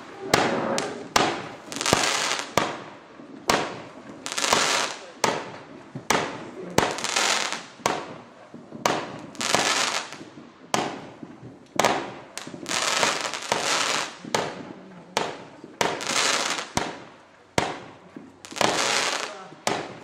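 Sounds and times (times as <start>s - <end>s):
fireworks bursting and crackling: 0.0s - 20.0s
fireworks launch cracks: 0.0s - 20.0s.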